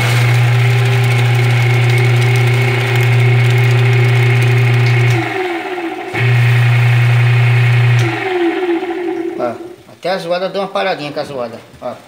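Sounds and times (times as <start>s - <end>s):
washing machine motor humming: 0.0s - 9.9s.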